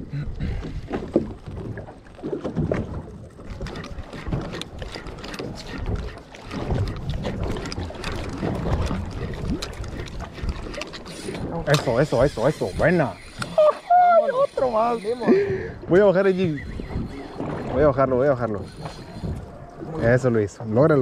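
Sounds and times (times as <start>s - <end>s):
water against hull: 0.0s - 21.0s
wind buffeting microphone: 0.0s - 21.0s.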